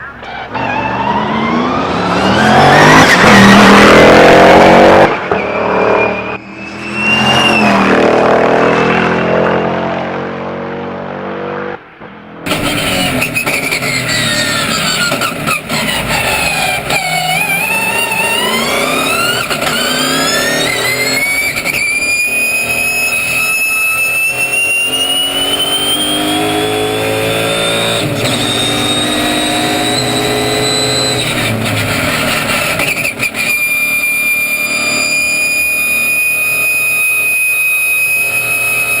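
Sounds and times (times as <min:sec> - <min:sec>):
race car engine accelerating: 0:00.2 - 0:11.8, 0:12.5 - 0:39.0.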